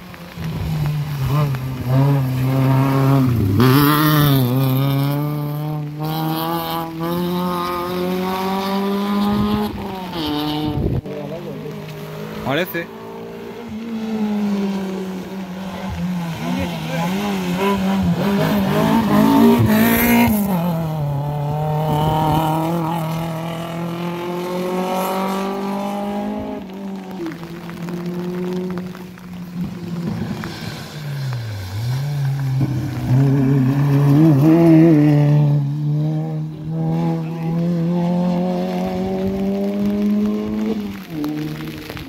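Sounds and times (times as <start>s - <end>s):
rally car engines revving high: 0.0s - 42.0s.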